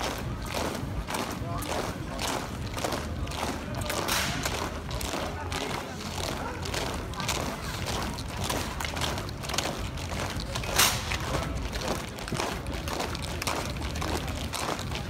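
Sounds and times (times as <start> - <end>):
marching boots on wet asphalt: 0.0 - 15.0.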